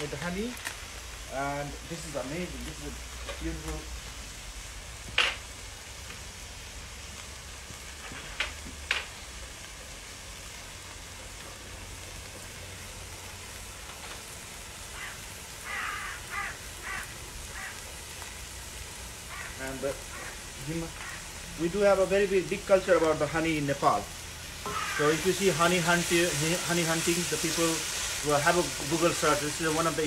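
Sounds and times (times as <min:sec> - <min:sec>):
curry sizzling in a pot: 0:00.0 - 0:30.0.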